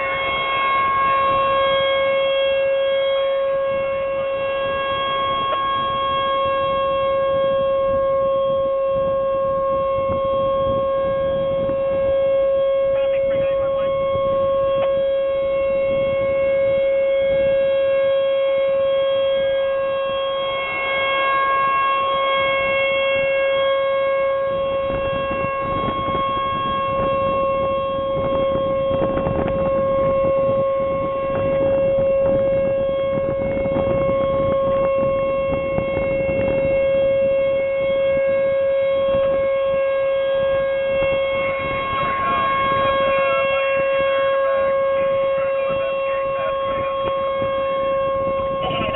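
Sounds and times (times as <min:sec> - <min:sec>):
tornado warning siren: 0:00.0 - 0:48.9.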